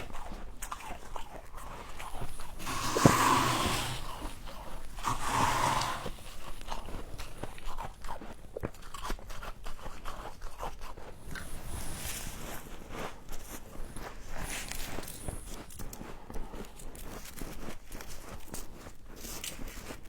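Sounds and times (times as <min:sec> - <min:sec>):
frost being chewed: 0:00.0 - 0:20.0.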